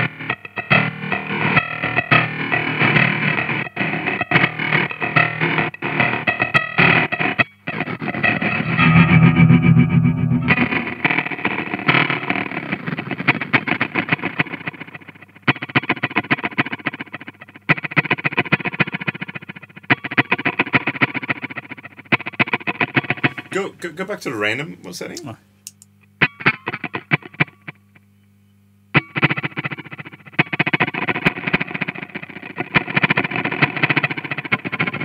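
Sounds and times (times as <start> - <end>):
electric guitar with stuttering delay: 0.0 - 24.6, 29.0 - 35.0.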